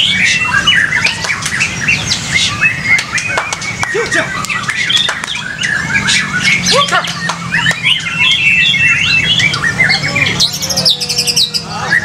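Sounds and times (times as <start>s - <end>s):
songbird whistles and trills: 0.0s - 12.0s.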